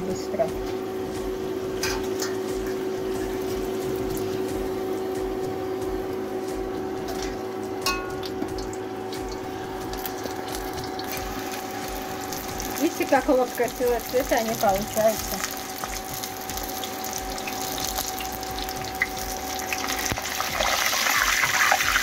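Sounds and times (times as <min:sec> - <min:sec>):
low hum: 0:00.0 - 0:21.0
food sizzling in hot oil: 0:00.0 - 0:22.0.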